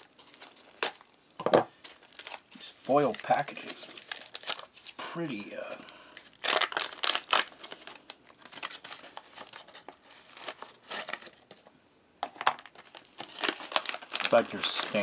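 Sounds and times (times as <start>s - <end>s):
foil packet tearing and crinkling: 0.0s - 11.7s, 12.4s - 15.0s.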